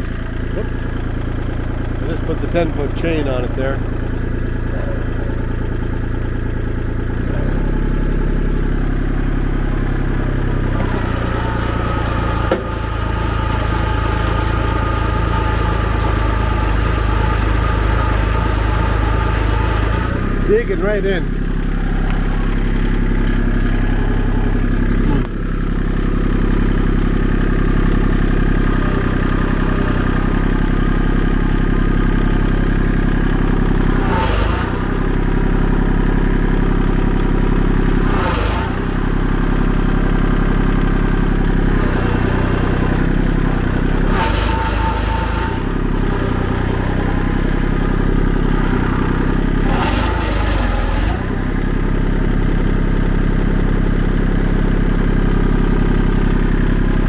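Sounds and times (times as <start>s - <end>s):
engine running under load: 0.0s - 57.0s.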